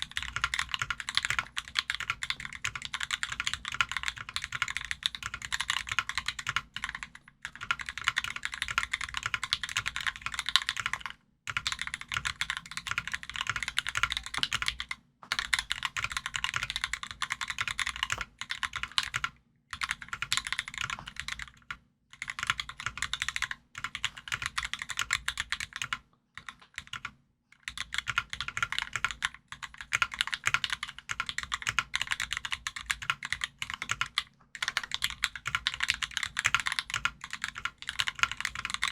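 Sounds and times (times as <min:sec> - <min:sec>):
mechanical keyboard typing: 0:00.0 - 0:27.1, 0:27.7 - 0:38.9.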